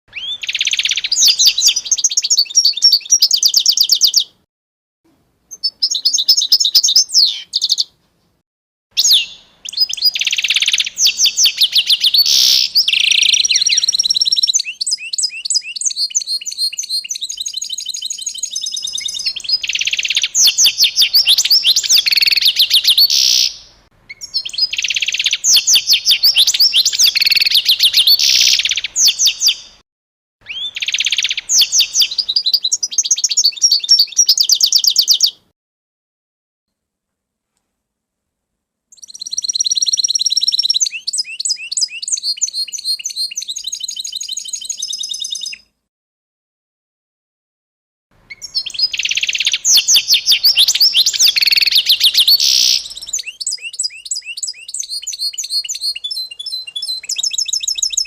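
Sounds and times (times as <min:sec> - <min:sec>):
small birds chirping: 0:00.1 - 0:04.5, 0:05.5 - 0:08.0, 0:09.0 - 0:29.8, 0:30.4 - 0:35.5, 0:38.9 - 0:45.7, 0:48.2 - 0:58.0.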